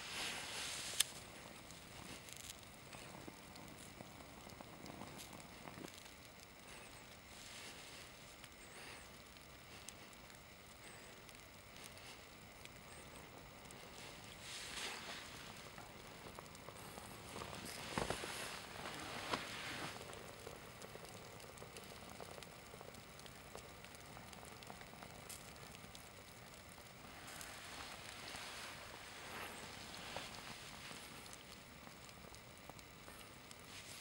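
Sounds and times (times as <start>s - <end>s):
flames crackling and hissing: 0.0s - 34.0s.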